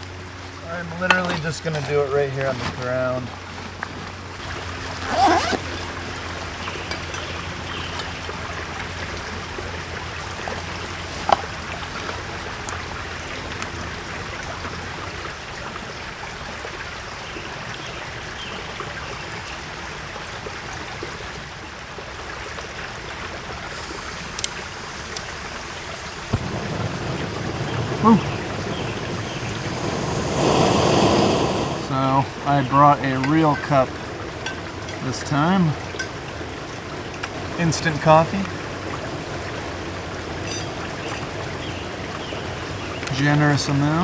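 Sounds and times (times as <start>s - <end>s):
stream running water: 0.0s - 44.0s.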